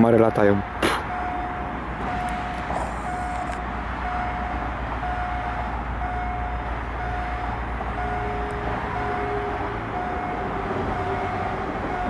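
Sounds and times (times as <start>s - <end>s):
distant train rumbling: 0.0s - 12.0s.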